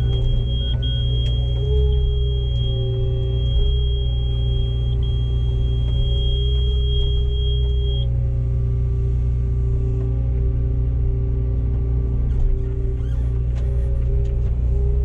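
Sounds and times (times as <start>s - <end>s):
diesel engine droning: 0.0s - 15.0s
hydraulic whine: 0.0s - 15.0s.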